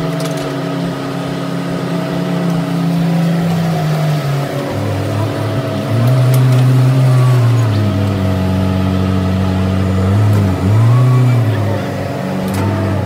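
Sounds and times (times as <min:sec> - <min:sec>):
hydraulics working: 0:00.0 - 0:13.0
small diesel engines droning: 0:00.0 - 0:13.0.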